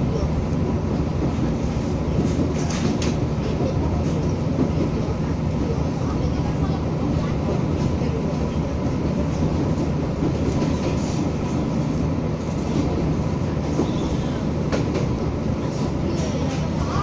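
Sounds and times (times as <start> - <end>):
railcar rumbling: 0.0 - 17.0.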